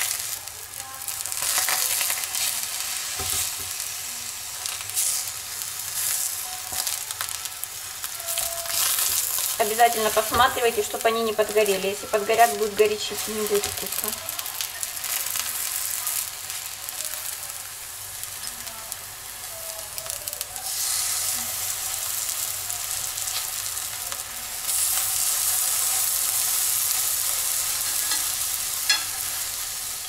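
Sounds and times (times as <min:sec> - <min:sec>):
vegetable slices sizzling in oil: 0:00.0 - 0:30.0
fork turning slices in pan: 0:01.2 - 0:19.0, 0:19.9 - 0:30.0.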